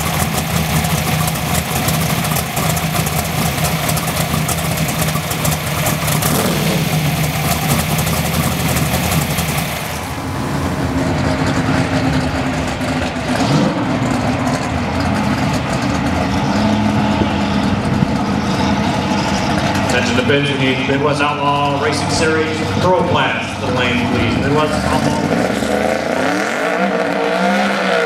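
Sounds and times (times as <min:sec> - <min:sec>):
car engine idling roughly: 0:00.0 - 0:25.5.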